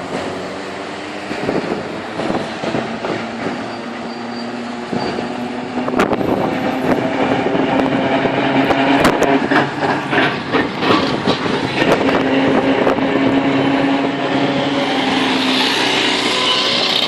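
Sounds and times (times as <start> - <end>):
tram humming: 0.0 - 17.0.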